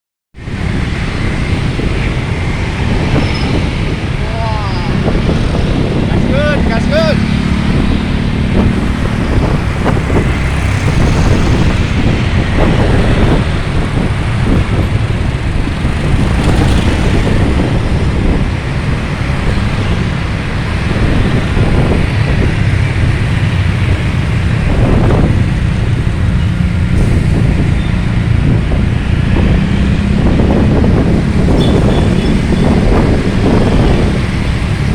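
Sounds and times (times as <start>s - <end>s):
vehicle engine and road noise: 0.4s - 34.9s.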